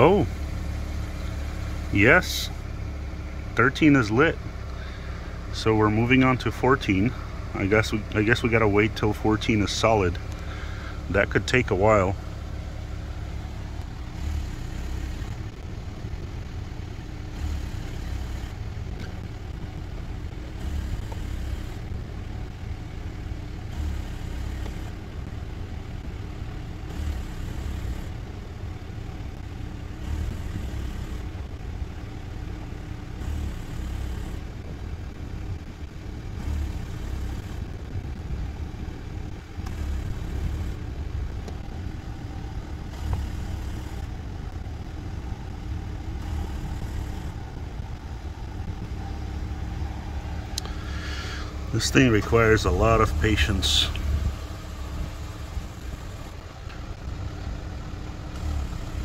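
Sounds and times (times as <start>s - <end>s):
outdoor background rumble with hiss: 0.0s - 59.0s.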